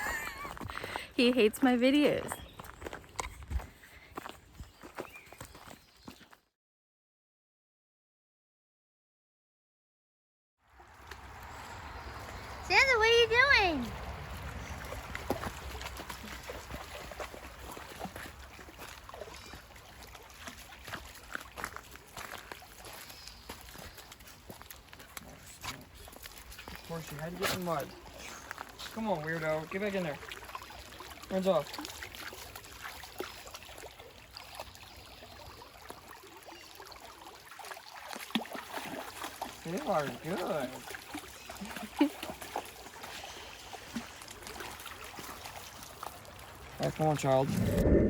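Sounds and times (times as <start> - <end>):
faint trickling water: 0.0 - 6.1, 10.7 - 47.9
dog paws splashing in mud: 0.0 - 6.4, 10.8 - 47.5.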